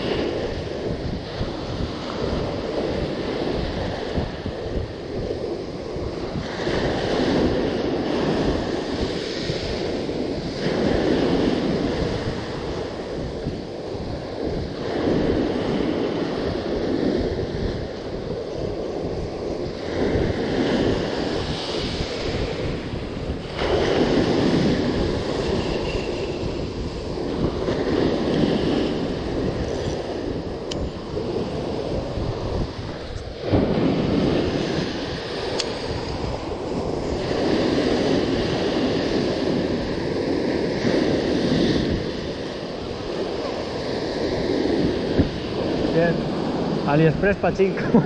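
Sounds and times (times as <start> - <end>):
small waves breaking on beach: 0.0 - 48.0
wind buffeting microphone: 0.0 - 48.0.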